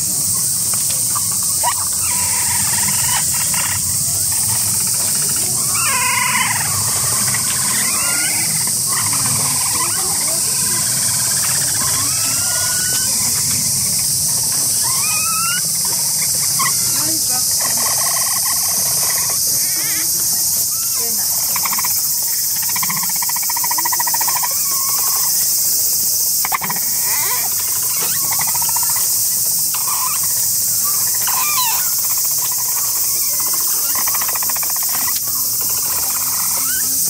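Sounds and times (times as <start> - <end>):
capybaras chattering calls: 0.0 - 37.0
high insect drone: 0.0 - 37.0.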